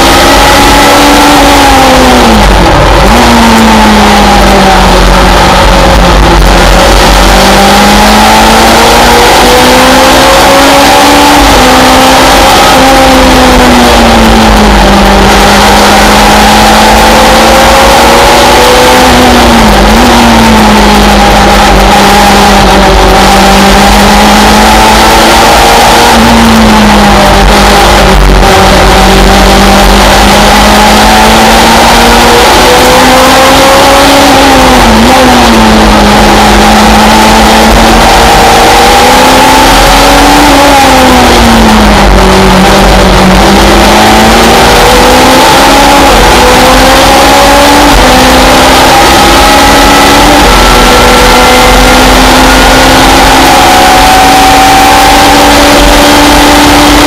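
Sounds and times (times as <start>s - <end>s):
race car engine at high revs: 0.0s - 57.0s
wind and road noise: 0.0s - 57.0s.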